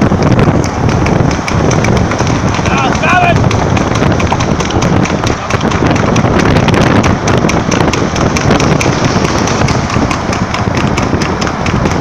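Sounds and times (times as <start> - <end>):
hooves clattering on tarmac: 0.0 - 12.0
vehicle rumble and wind noise: 0.0 - 12.0.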